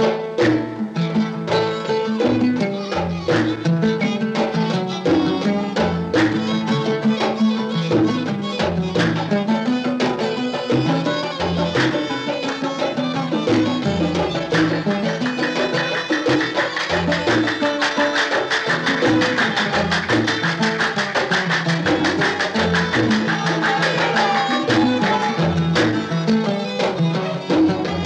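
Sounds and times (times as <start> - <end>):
hand-drum strokes: 0.0 - 28.0.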